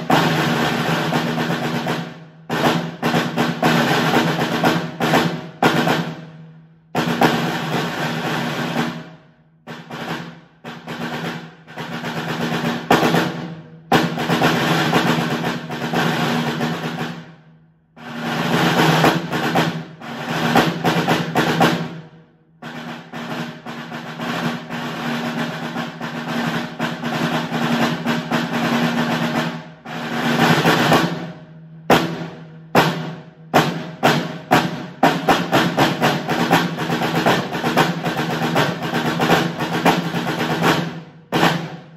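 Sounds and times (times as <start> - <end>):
sharp snare drum strokes: 0.0 - 17.4, 18.0 - 41.9
snare drum rolls: 0.0 - 41.9.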